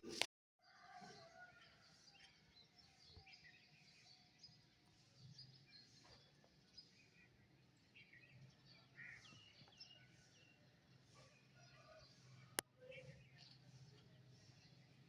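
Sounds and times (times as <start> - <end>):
faint birds chirping: 1.3 - 15.0.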